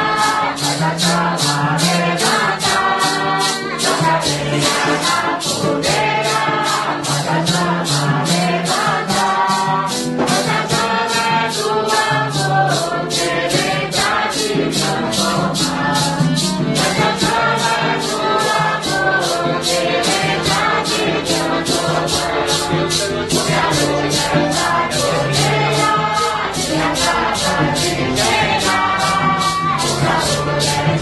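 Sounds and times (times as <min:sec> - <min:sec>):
group singing a hymn: 0:00.0 - 0:31.0
maracas shaking: 0:00.0 - 0:31.0.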